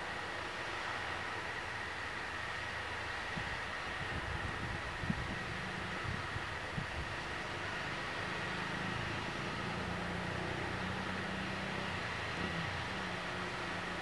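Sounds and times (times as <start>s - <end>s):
engine low drone: 0.0s - 14.0s
faint high whine: 0.0s - 14.0s.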